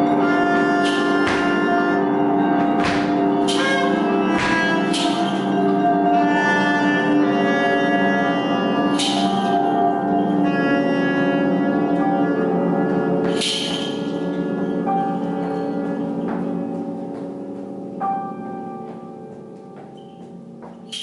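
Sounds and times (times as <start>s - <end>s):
bass clarinet held tones: 0.0s - 17.1s.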